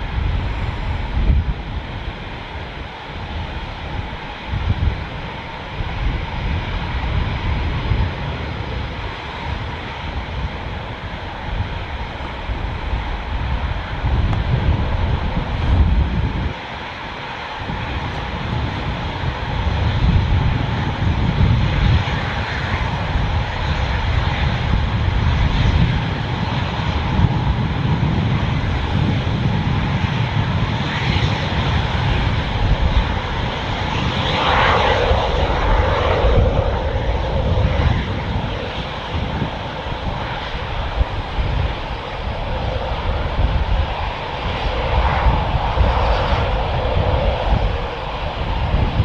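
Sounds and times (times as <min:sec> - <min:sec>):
fighter jet engines rumbling: 0:00.0 - 0:49.0.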